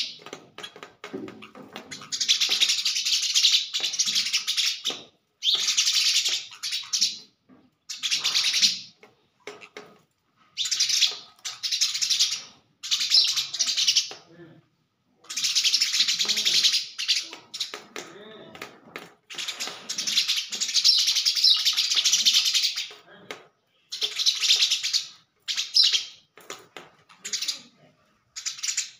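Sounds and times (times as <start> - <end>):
sparrows chirping: 0.0 - 9.0, 10.4 - 14.2, 15.2 - 17.9, 19.3 - 23.0, 23.8 - 26.3, 27.2 - 28.9.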